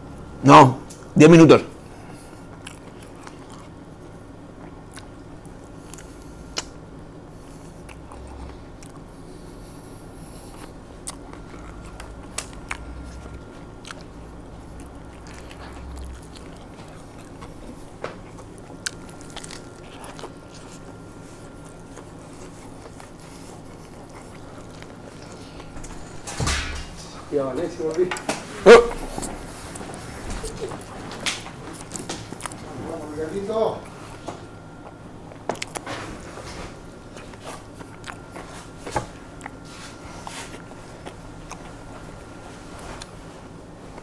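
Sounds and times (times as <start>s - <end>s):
low room hum: 0.0s - 44.0s
person chewing a burger: 1.8s - 26.3s, 28.8s - 32.8s, 33.8s - 44.0s.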